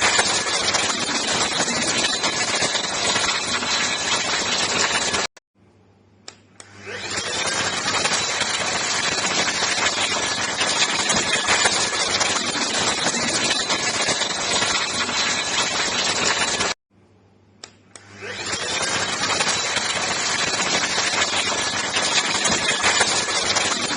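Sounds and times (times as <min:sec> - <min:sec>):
handheld vacuum cleaner running: 0:00.0 - 0:05.3, 0:06.6 - 0:16.8, 0:18.0 - 0:23.9.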